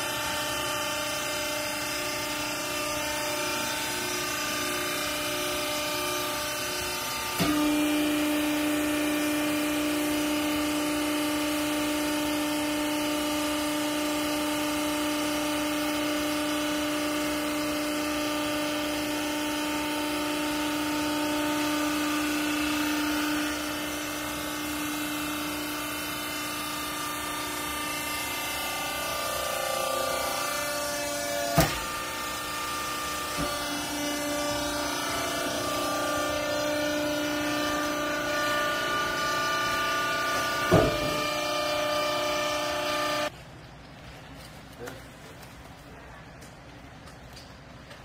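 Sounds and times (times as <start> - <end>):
hydraulic power unit humming: 0.0 - 43.4.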